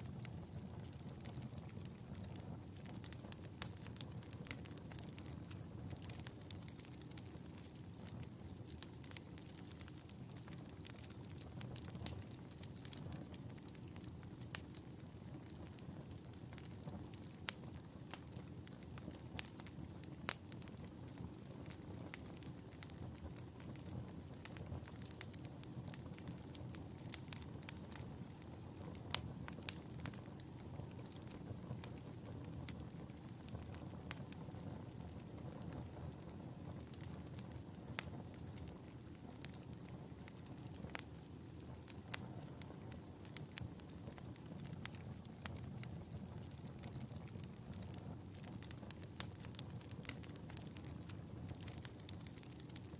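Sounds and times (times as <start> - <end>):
wood fire crackles and pops: 0.0 - 52.9.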